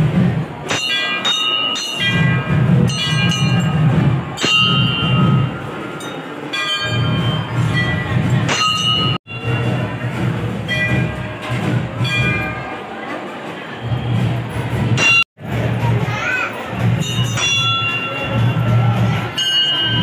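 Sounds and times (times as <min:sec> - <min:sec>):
brass bells clanging: 0:00.1 - 0:13.0, 0:13.8 - 0:15.8, 0:16.5 - 0:20.0.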